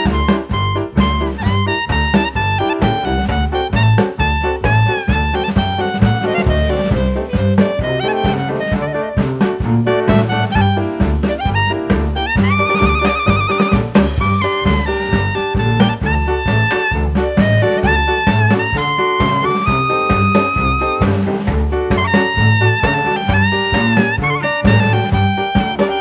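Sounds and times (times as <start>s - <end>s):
bass and drums: 0.0s - 26.0s
horn playing melody: 0.0s - 26.0s.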